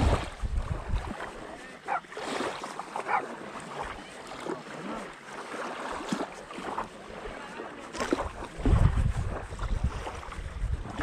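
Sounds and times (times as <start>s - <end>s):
small waves lapping on shore: 0.0s - 11.0s.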